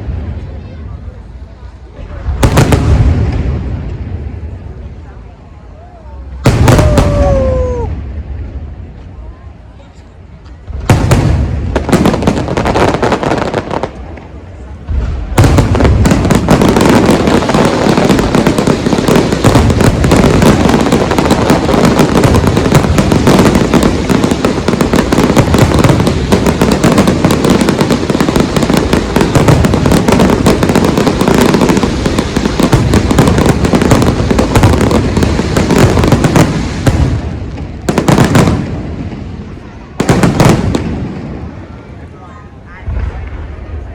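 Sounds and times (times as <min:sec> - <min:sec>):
fireworks bursting: 0:00.0 - 0:09.0, 0:10.2 - 0:43.9.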